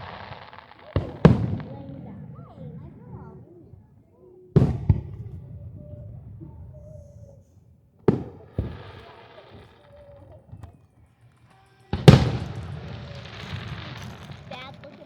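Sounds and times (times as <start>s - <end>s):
fireworks bursting with bangs: 0.0s - 15.0s
fireworks crackling: 0.0s - 15.0s.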